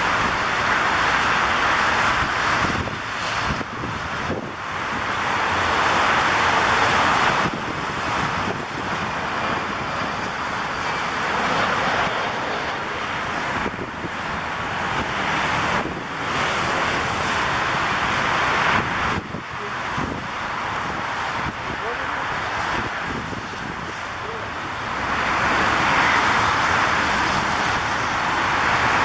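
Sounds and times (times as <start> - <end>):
heavy rain: 0.0 - 29.0
wind buffeting microphone: 0.0 - 29.0.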